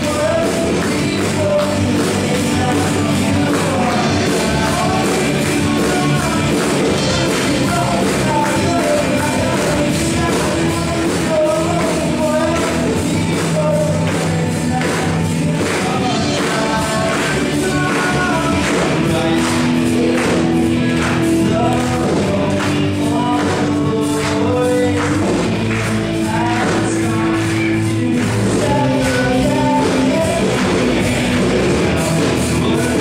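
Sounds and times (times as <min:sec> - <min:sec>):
band playing with steady beat: 0:00.0 - 0:33.0
electric guitar: 0:00.0 - 0:33.0
man singing: 0:00.0 - 0:33.0.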